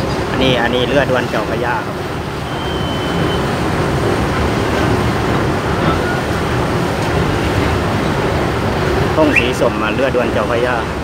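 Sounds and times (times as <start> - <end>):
boat engines running: 0.0 - 11.0
water churning: 0.0 - 11.0.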